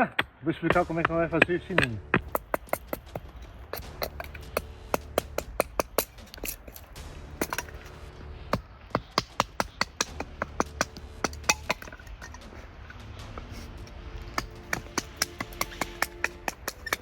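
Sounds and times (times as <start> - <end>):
wood being split into kindling: 0.8 - 17.0.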